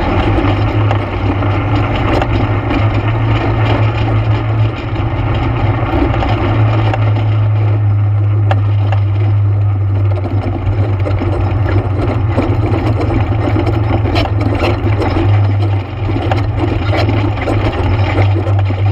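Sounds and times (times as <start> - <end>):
atv engine droning: 0.0 - 18.9.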